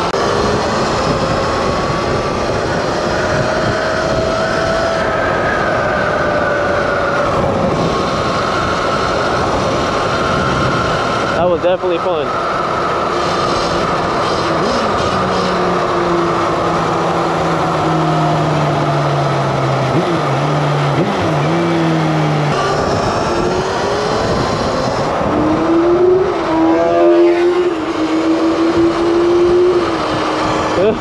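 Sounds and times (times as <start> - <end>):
motorbike engine: 0.0 - 31.0
steady rushing noise: 0.0 - 31.0.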